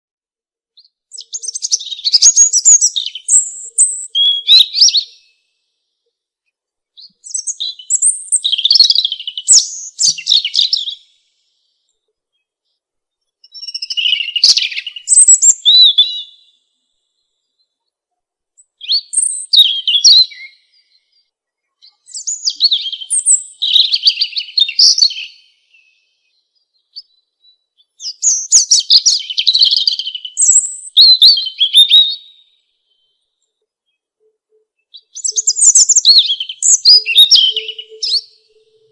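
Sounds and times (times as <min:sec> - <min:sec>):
robin singing: 0:00.8 - 0:18.0, 0:18.6 - 0:38.9.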